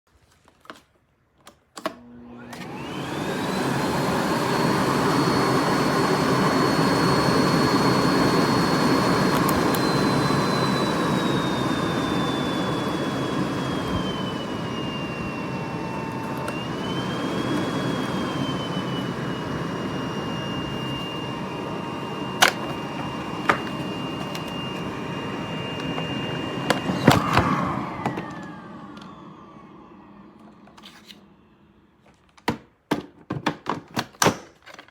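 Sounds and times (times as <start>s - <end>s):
vacuum cleaner motor whine: 1.8s - 32.2s
vacuum spinning down: 2.0s - 31.8s.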